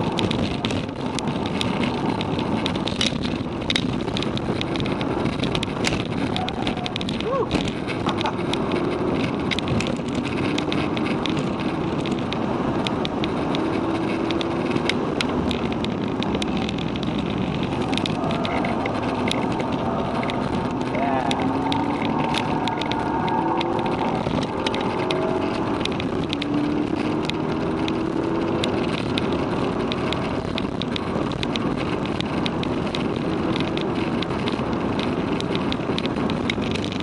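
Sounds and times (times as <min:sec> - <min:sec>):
car engine from inside cabin: 0:00.0 - 0:36.5
road and wind noise: 0:00.0 - 0:37.0
small clicks and rattles: 0:00.0 - 0:37.0.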